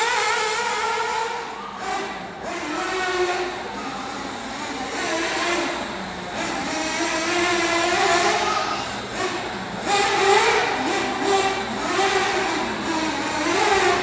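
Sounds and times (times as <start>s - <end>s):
model buggy engine revving: 0.0s - 14.0s.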